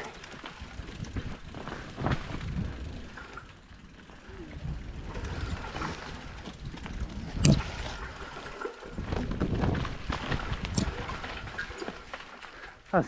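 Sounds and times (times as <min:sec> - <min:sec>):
bike rattling over bumps: 0:00.0 - 0:12.9
bike tyres rumbling on dirt: 0:00.0 - 0:13.0.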